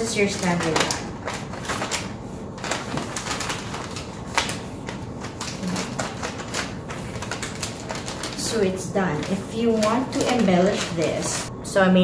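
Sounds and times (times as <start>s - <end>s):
paper rustling and crinkling: 0.0s - 11.5s.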